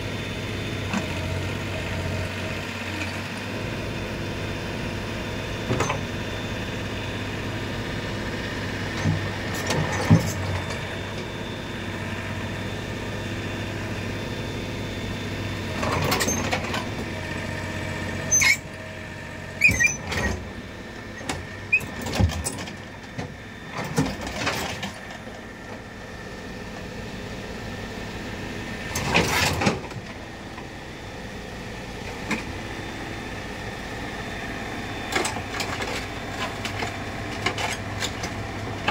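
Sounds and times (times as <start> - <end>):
diesel engine under hydraulic load: 0.0 - 38.9.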